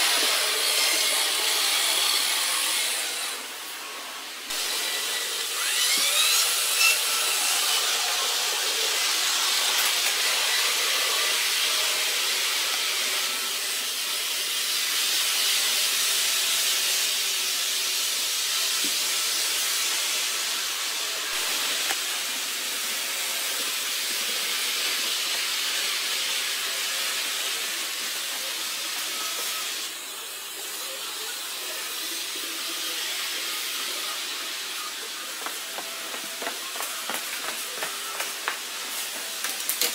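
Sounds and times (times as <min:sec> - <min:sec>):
model trains hissing whir: 0:00.0 - 0:39.9.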